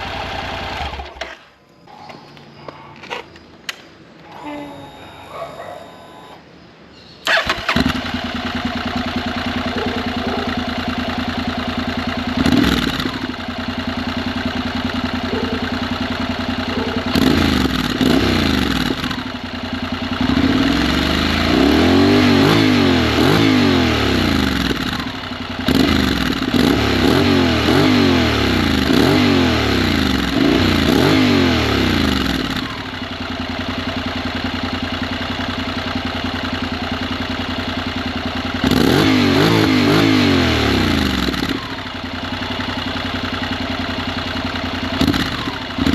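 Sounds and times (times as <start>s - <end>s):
motorcycle engine idling and revving: 0.0s - 6.4s, 7.2s - 45.9s.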